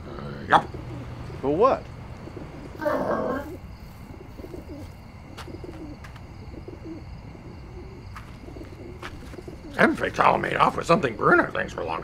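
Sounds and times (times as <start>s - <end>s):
doves cooing: 0.0s - 12.0s.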